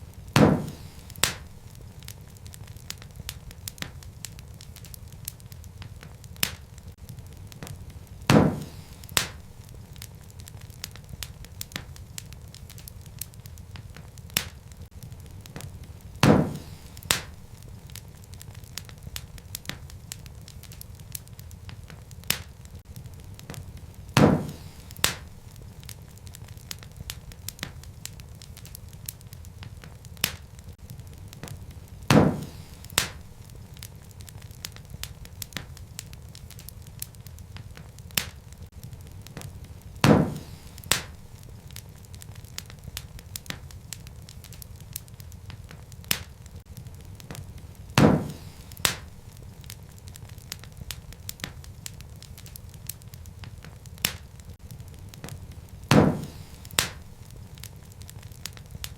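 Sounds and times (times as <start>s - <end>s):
wood fire crackling: 0.0s - 58.9s
loud pop from fire: 0.1s - 58.9s.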